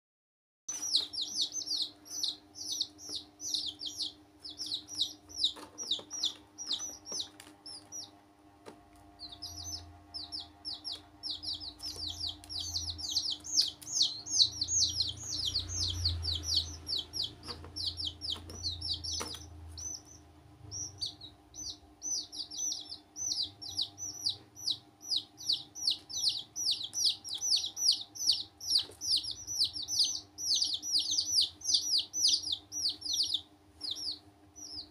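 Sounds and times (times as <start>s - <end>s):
baby chicks peeping: 0.7s - 34.9s
low hum: 0.7s - 34.9s.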